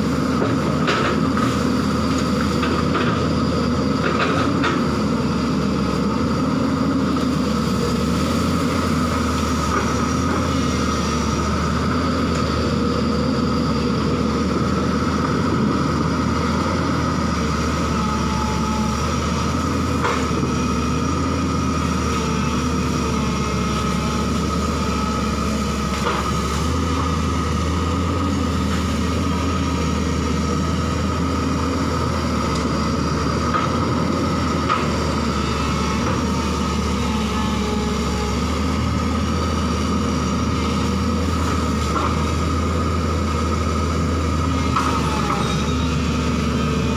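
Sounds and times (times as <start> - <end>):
excavator diesel engine running: 0.0 - 46.9
steady whine: 0.0 - 46.9.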